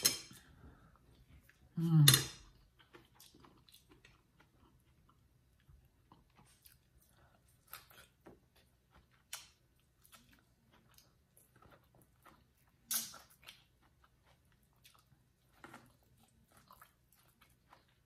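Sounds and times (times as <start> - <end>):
person chewing corn: 2.5 - 18.0.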